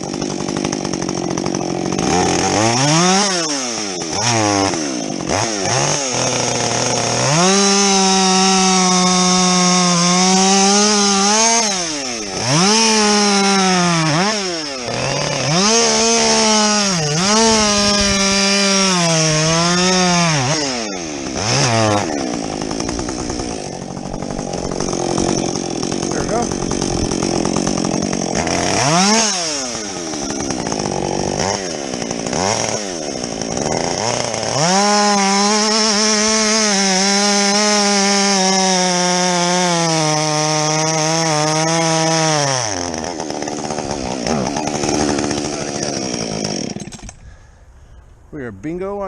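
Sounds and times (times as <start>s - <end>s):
chainsaw cutting log: 0.0s - 47.4s.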